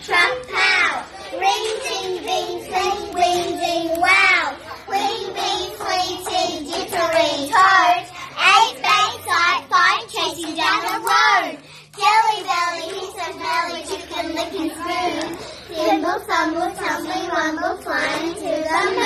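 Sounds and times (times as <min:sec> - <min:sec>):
young children singing: 0:00.0 - 0:19.0.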